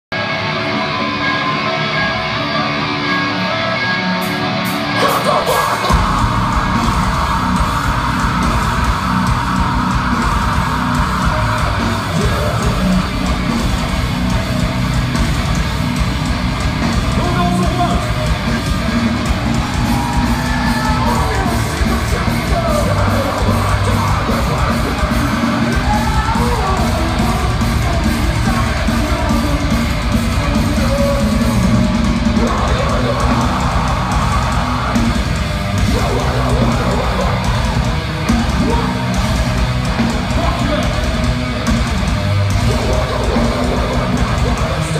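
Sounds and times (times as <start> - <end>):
drums: 0.1 - 44.9
electric guitars: 0.1 - 44.9
live rock band playing: 0.1 - 44.9
vocals: 4.9 - 44.9.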